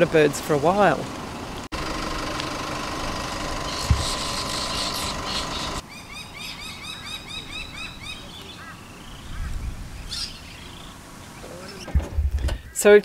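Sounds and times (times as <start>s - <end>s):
birds chirping: 1.2s - 13.0s.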